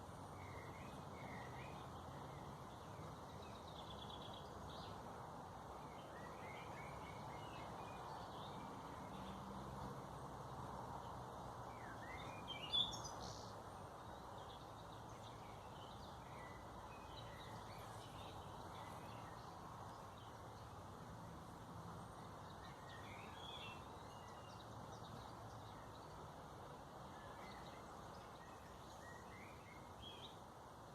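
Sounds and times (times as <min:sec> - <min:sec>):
faint steady background noise: 0:00.0 - 0:30.9
small birds chirping: 0:00.0 - 0:30.9.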